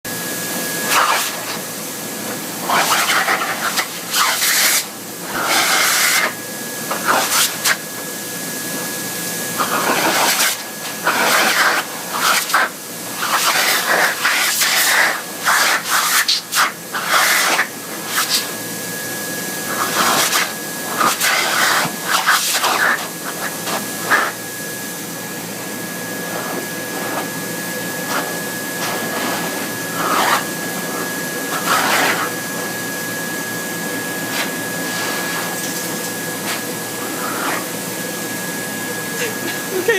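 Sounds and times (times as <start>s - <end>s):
blow dryer rushing air: 0.1s - 39.9s.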